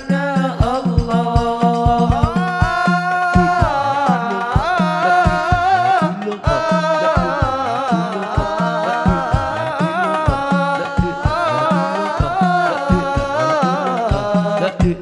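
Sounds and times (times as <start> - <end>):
low drum beats: 0.0 - 15.0
person singing devotional song: 0.0 - 15.0.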